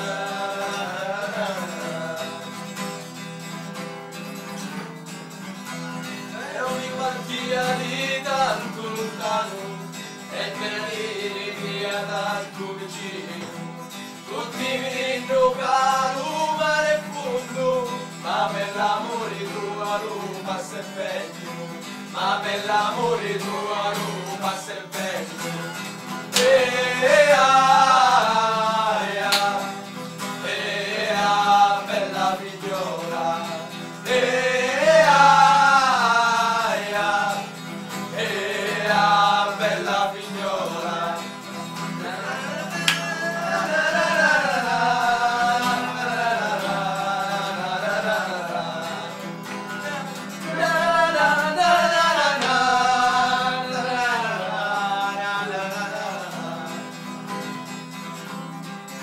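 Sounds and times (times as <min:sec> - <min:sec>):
men singing together: 0:00.0 - 0:03.0, 0:06.3 - 0:57.4
strummed acoustic guitar: 0:00.0 - 0:59.0.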